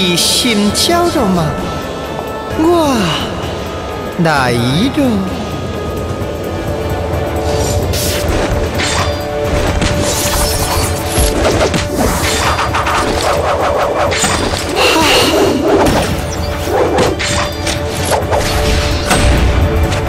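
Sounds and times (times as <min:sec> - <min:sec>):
dramatic background music: 0:00.0 - 0:20.0.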